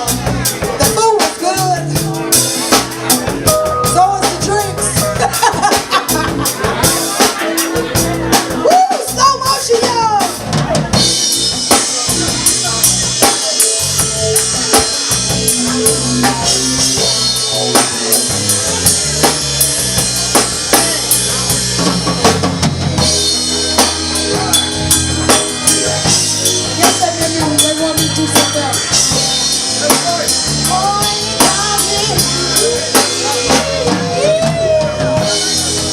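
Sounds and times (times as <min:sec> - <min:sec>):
drum kit beat: 0:00.0 - 0:35.9
live band music: 0:00.0 - 0:35.9.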